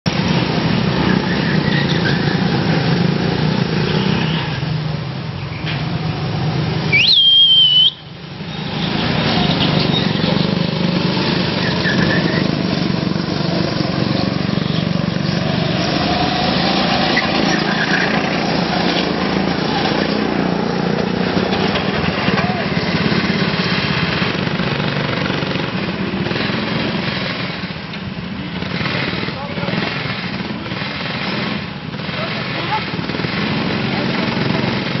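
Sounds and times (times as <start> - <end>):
go-kart engines driving past: 0.1 - 35.0.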